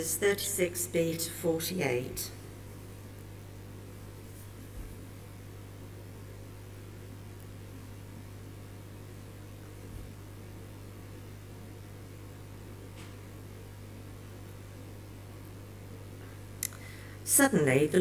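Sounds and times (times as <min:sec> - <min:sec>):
low mains hum: 0:00.0 - 0:18.0.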